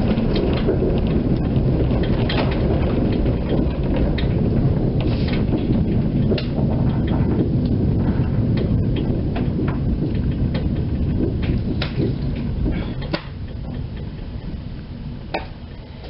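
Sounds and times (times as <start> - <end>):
tram wheels rumbling on rails: 0.0 - 16.0
wheels squeaking and clicking: 0.0 - 16.0.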